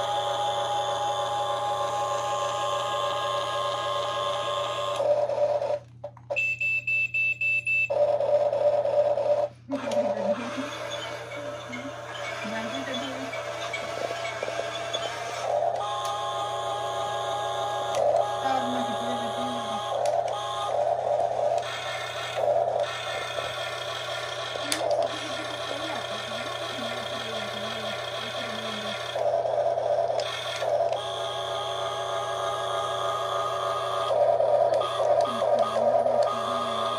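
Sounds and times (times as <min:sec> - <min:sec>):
electric motor whine: 0:00.0 - 0:05.9, 0:07.9 - 0:36.9
electrical hum: 0:00.0 - 0:36.9.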